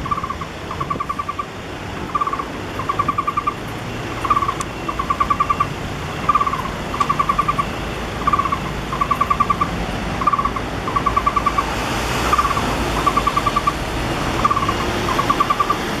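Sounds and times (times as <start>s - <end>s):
bird nestling calling: 0.0s - 11.7s, 12.3s - 16.0s
car passing: 0.0s - 16.0s
road traffic rumble: 0.0s - 16.0s.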